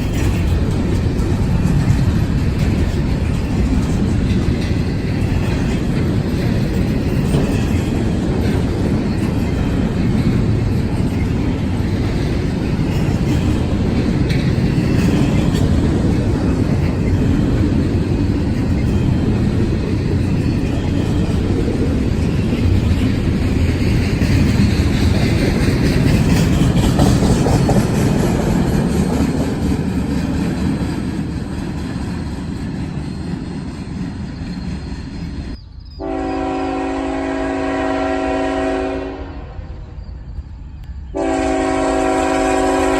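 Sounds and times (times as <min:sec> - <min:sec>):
wheels clickety-clack: 0:00.0 - 0:35.6
freight train rumbling on rails: 0:00.0 - 0:42.9.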